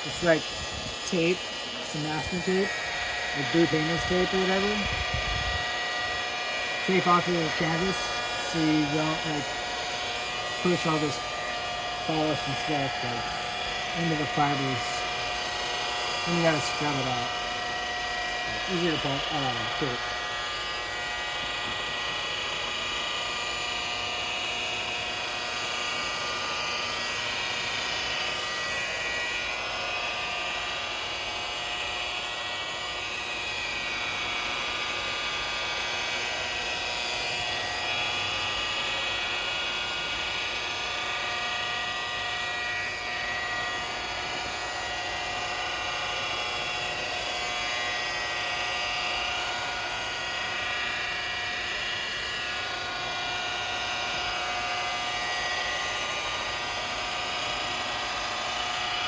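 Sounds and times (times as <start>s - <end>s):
rotary polisher motor whine: 0.0s - 59.0s.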